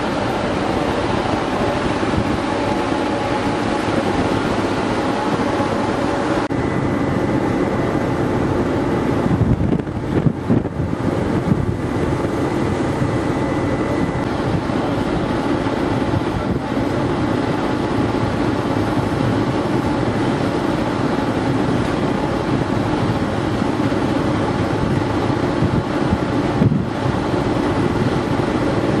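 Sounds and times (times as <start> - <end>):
ship machinery hum: 0.0 - 29.0
wind buffeting microphone: 0.0 - 29.0
wind noise: 0.0 - 29.0.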